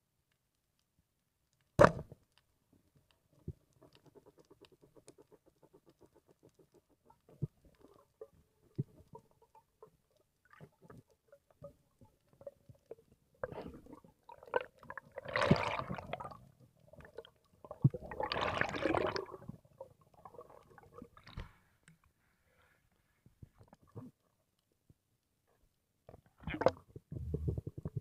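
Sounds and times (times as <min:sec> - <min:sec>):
small underwater clicks and knocks: 0:00.2 - 0:22.2, 0:23.2 - 0:28.0.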